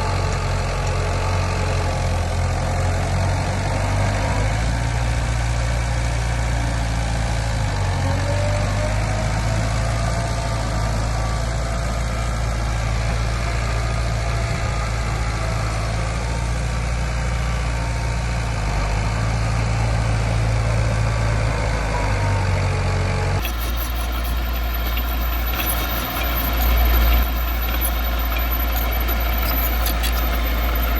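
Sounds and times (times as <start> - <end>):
heavy diesel engine droning: 0.0 - 30.9.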